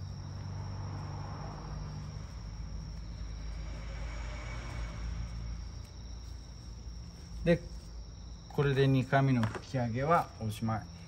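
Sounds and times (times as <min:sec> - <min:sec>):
low steady hum: 0:00.0 - 0:09.2
insects chirping trill: 0:00.0 - 0:11.0.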